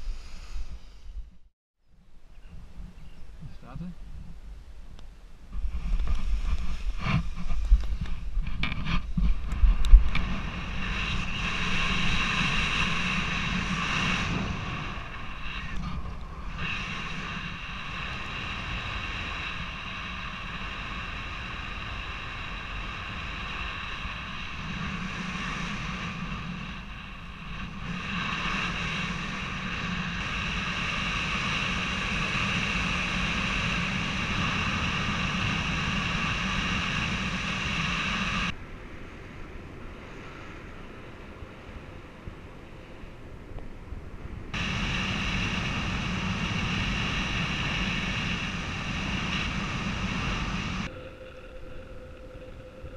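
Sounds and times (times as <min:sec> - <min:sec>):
wind rushing over microphone: 0:02.5 - 0:52.9.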